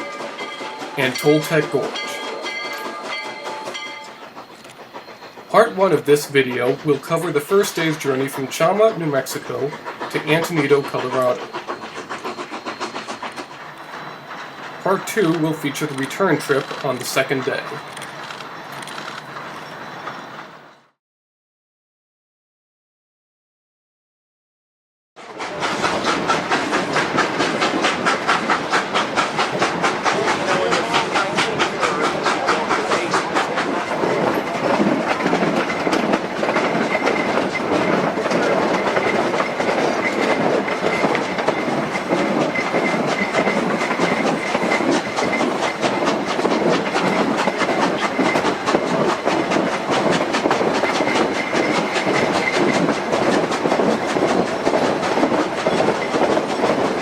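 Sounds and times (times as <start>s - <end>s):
wheels clattering on rails: 0.0s - 20.8s, 25.2s - 57.0s
steam locomotive running: 0.0s - 21.0s, 25.2s - 57.0s.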